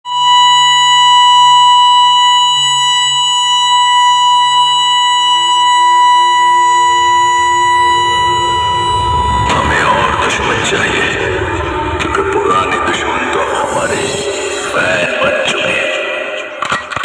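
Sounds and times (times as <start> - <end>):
steady test tone over loudspeakers: 0.1 - 17.0.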